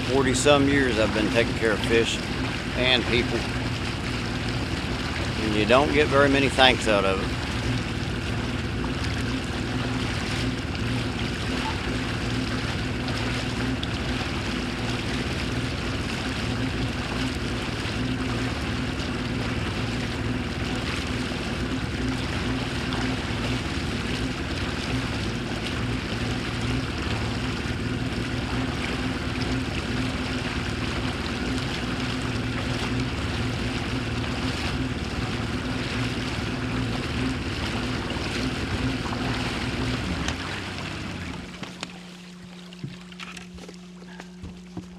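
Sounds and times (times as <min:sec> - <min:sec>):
motorboat engine humming: 0:00.0 - 0:44.9
water wash: 0:00.0 - 0:44.9.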